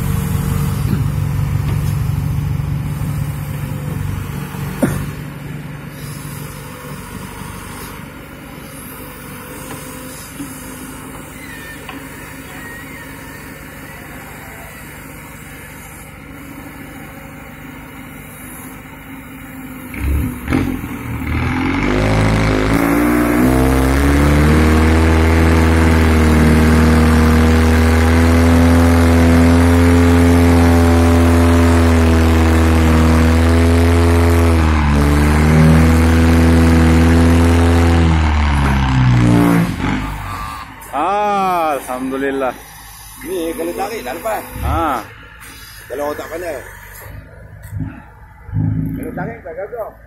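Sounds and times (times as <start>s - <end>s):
heavy diesel engine revving: 0.0s - 50.0s.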